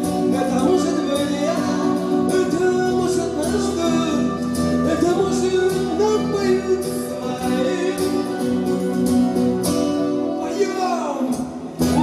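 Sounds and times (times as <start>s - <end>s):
electric guitar lead: 0.0s - 12.0s
strummed acoustic guitar: 0.0s - 12.0s.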